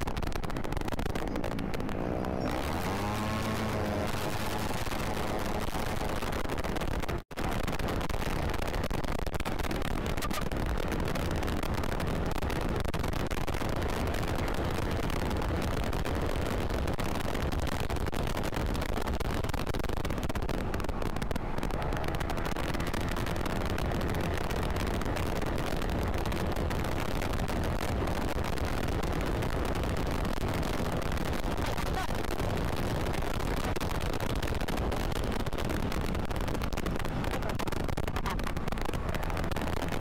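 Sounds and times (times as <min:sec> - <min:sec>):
scooter engine and road noise: 0:00.0 - 0:40.0
wind buffeting microphone: 0:00.0 - 0:40.0.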